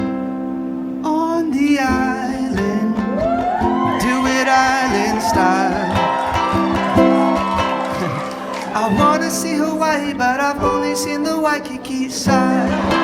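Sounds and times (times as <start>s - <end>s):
guitar chords: 0.0s - 13.0s
man singing: 1.0s - 6.8s, 8.0s - 13.0s.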